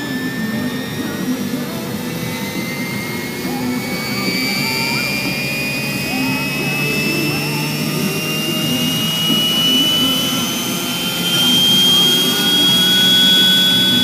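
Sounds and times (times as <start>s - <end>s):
model helicopter whine: 0.0s - 14.0s.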